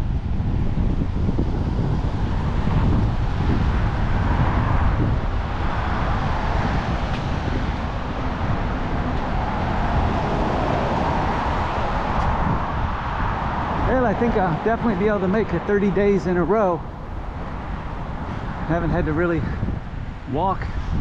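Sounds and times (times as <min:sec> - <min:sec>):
cars passing: 0:00.0 - 0:21.0
wind buffeting microphone: 0:00.0 - 0:21.0.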